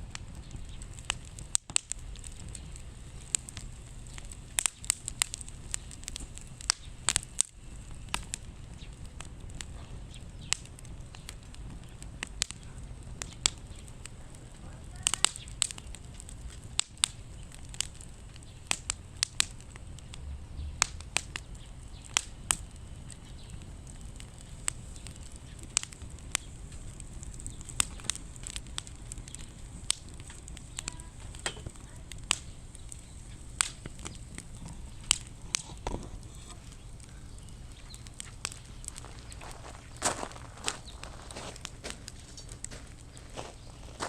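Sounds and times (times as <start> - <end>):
firewood crackling and popping: 0.0 - 44.0.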